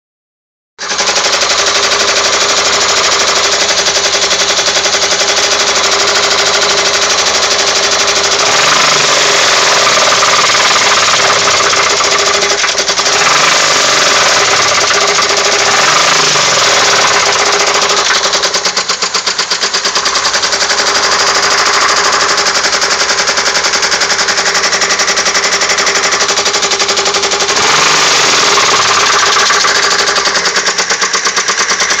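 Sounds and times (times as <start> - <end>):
car engine revving: 0.8 - 32.0
engine knocking: 0.8 - 32.0.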